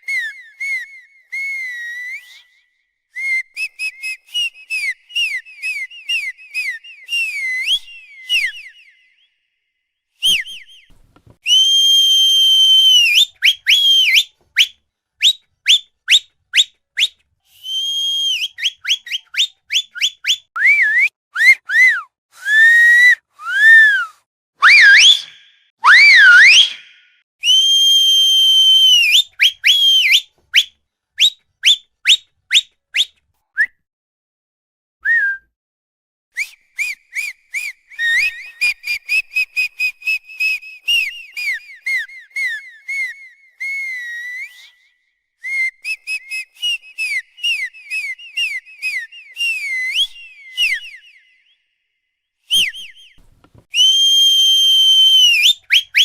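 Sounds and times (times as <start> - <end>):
high-pitched whistle trilling: 0.0 - 9.5, 10.2 - 33.7, 35.0 - 35.5, 36.4 - 51.9, 52.5 - 56.0.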